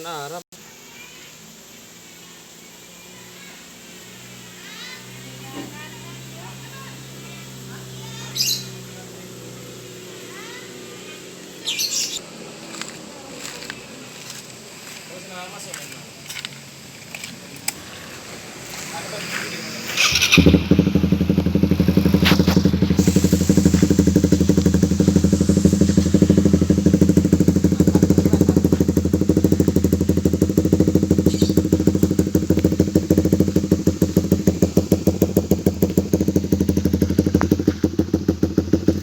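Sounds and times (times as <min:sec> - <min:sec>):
motorcycle engine idling: 0:00.6 - 0:39.0.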